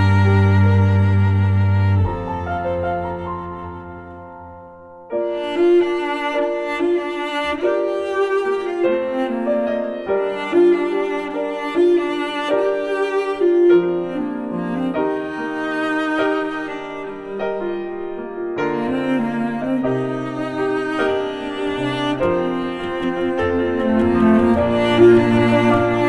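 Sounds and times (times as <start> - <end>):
cello: 0.0 - 26.0
piano: 0.0 - 26.0
violin: 0.0 - 26.0.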